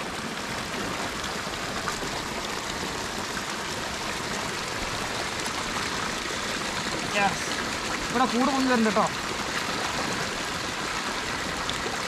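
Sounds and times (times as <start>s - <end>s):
fast-flowing stream rushing: 0.0s - 12.0s.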